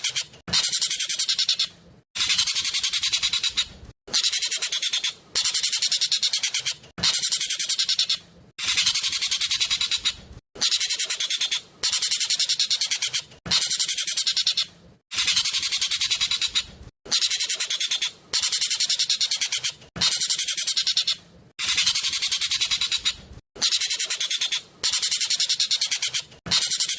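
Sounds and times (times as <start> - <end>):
bird calling in rattling trills: 0.0 - 26.9.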